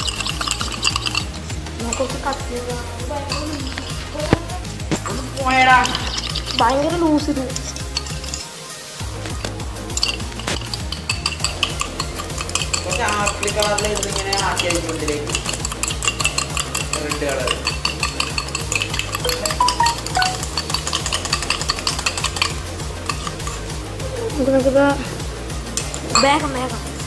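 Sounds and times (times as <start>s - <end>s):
metal spoon clinking in a tumbler: 0.0s - 4.2s, 5.3s - 8.5s, 9.3s - 23.8s, 25.8s - 26.4s.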